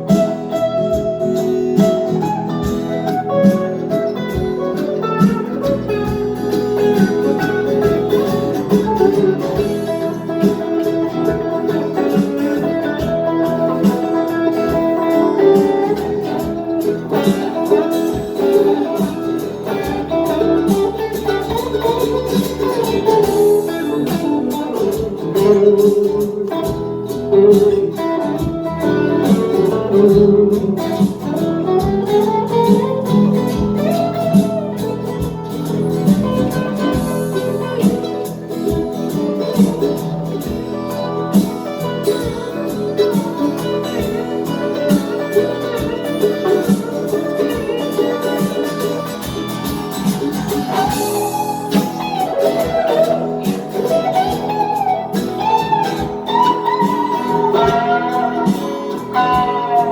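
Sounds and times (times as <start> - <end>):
live band instrumental with guitars: 0.0 - 59.9.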